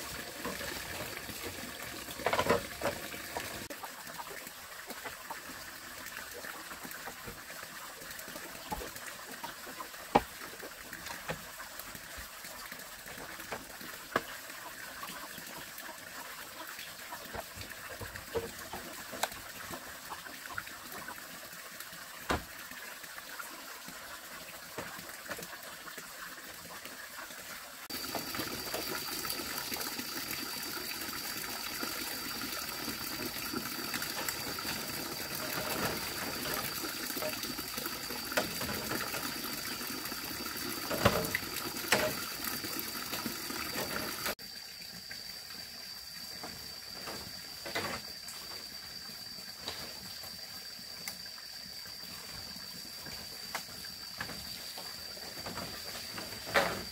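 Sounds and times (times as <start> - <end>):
water trickling and splashing: 0.0 - 56.9.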